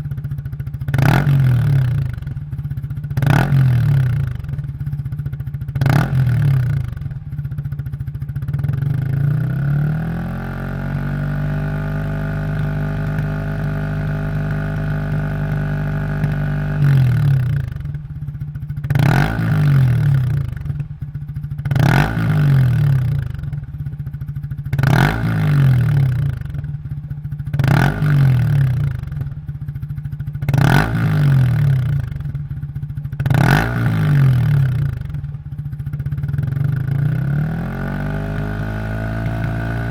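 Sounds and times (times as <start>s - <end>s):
motorcycle engine revving: 0.0s - 39.9s
motorcycle throttle blips: 0.0s - 39.9s.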